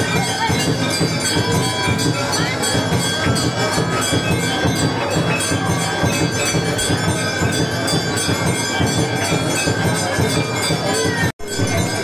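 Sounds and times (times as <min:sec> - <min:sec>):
temple bells clanging: 0:00.0 - 0:12.0.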